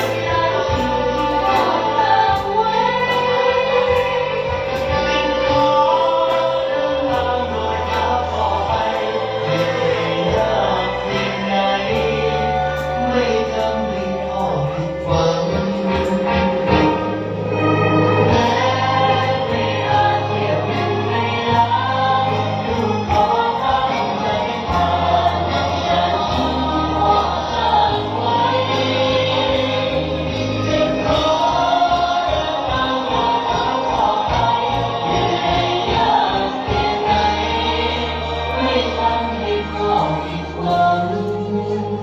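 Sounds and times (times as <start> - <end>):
group singing over backing music: 0.0 - 42.0.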